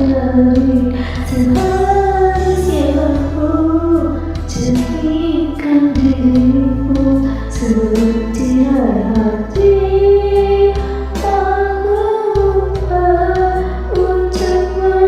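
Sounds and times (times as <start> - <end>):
bass line: 0.0 - 15.0
pop ballad singing: 0.0 - 15.0.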